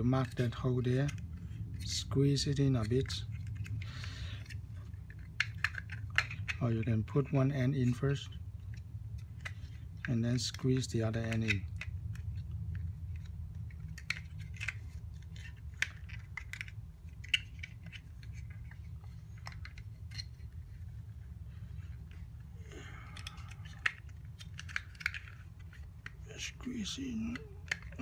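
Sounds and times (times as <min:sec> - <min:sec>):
steady low hum: 0:00.0 - 0:28.0
plastic parts clicking and tapping: 0:00.2 - 0:07.4, 0:08.6 - 0:20.8, 0:23.0 - 0:28.0.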